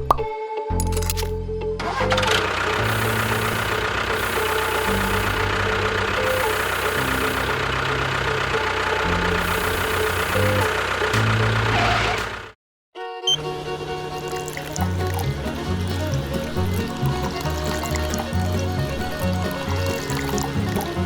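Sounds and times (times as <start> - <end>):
engine idling: 0.9 - 12.6, 13.8 - 21.0.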